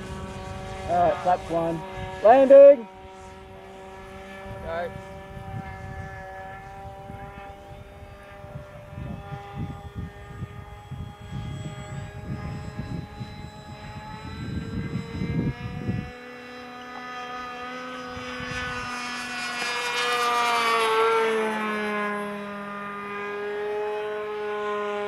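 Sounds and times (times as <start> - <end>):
model plane motor whining: 0.0 - 25.0.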